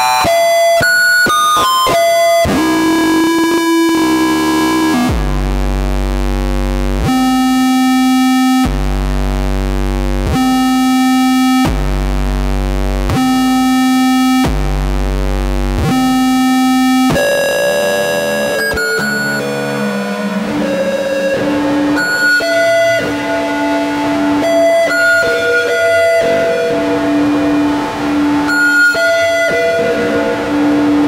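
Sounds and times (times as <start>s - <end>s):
buzzy feedback drone: 2.0s - 31.0s.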